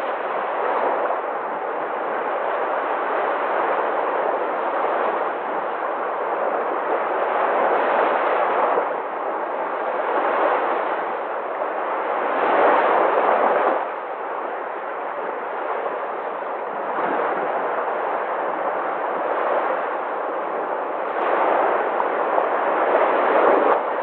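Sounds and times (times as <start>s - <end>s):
sea waves breaking: 0.0s - 24.0s.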